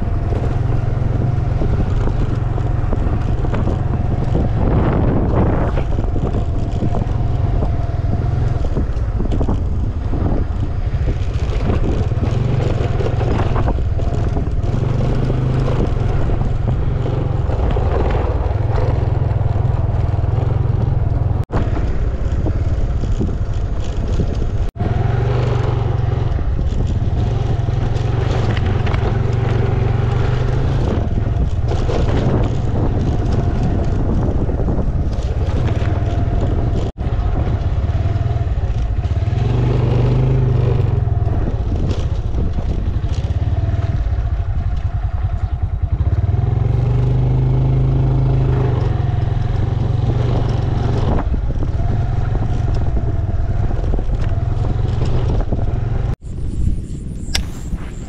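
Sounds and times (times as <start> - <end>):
motor scooter engine: 0.0 - 56.2
wind buffeting microphone: 0.0 - 58.0.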